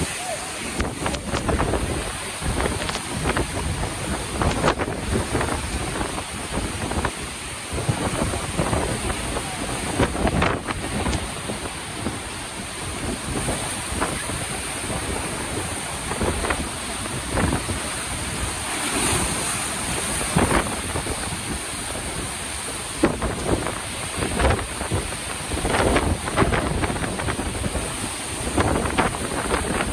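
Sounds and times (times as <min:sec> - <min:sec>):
waves crashing against rocks: 0:00.0 - 0:29.9
wind buffeting microphone: 0:00.0 - 0:29.9.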